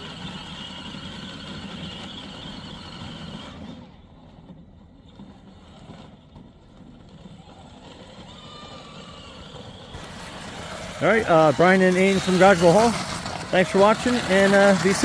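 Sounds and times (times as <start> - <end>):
electric toy car motor whine: 0.0 - 15.0.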